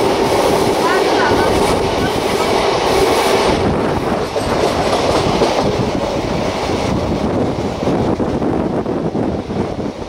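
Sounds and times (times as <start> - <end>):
train rumbling on tracks: 0.0 - 10.0.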